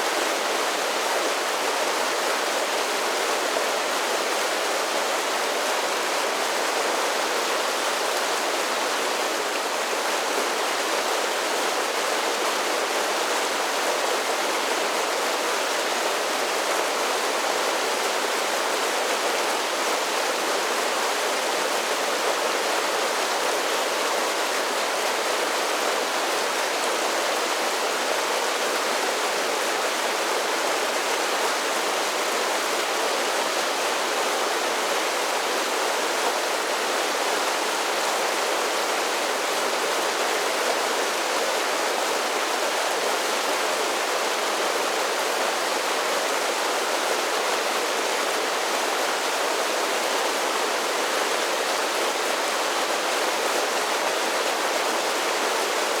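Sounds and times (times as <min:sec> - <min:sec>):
creek cascading over small falls: 0:00.0 - 0:56.0.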